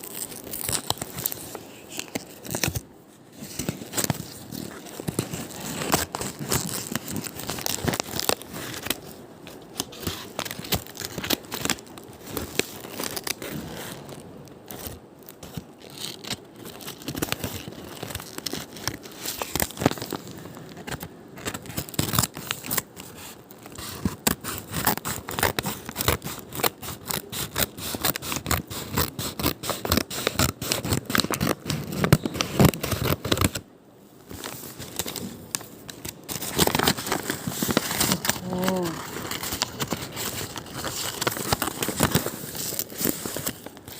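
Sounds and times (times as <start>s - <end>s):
packaging crinkling and tearing: 0.0s - 43.9s.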